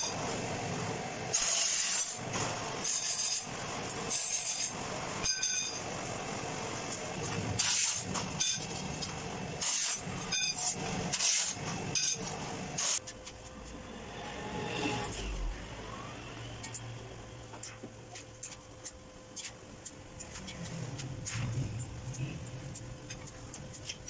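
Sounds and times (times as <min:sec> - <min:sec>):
workshop hum: 0:00.0 - 0:24.0.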